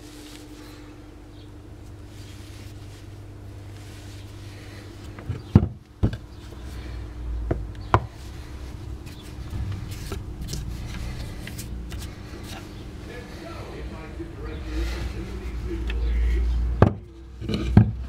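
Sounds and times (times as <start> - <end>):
rubbing and handling noise: 0.0 - 18.0.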